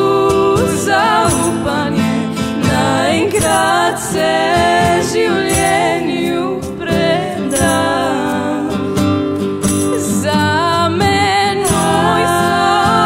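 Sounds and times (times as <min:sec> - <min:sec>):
instrumental accompaniment: 0:00.0 - 0:13.0.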